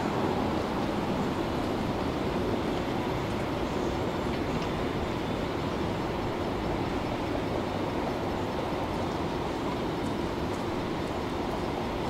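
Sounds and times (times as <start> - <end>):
tram humming: 0.0 - 12.0.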